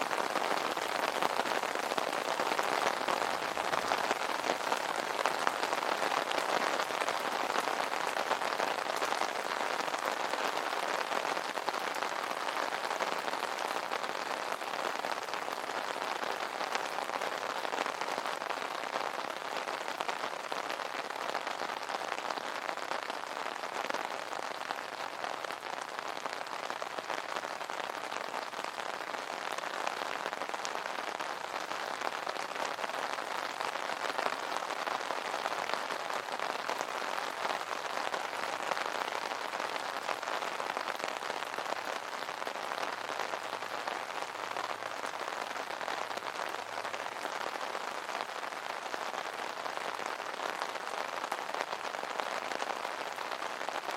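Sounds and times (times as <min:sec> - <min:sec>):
rain pattering on an umbrella: 0:00.0 - 0:53.9.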